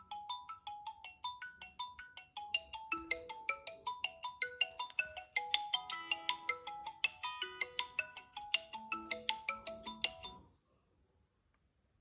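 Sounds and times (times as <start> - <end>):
phone ringtone melody: 0.0 - 10.4.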